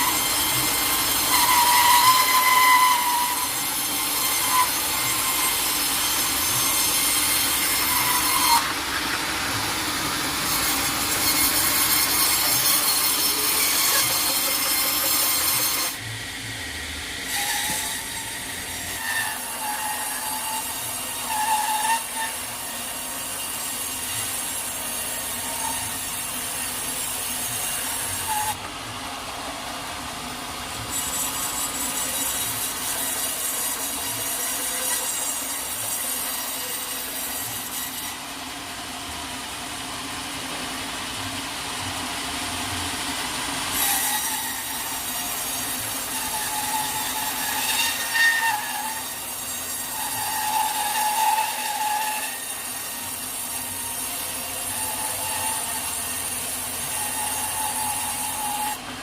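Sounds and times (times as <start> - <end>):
saw blade squealing: 0.0 - 9.2, 10.3 - 16.1, 17.2 - 28.6, 30.7 - 38.2, 43.8 - 58.9
sawmill blade cutting log: 0.0 - 59.0.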